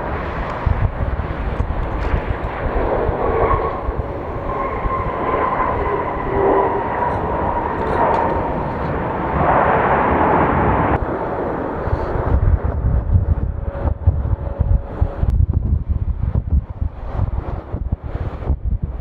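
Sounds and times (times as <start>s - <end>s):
jet engines whining: 0.0s - 15.3s
wind rumbling on microphone: 0.0s - 19.0s.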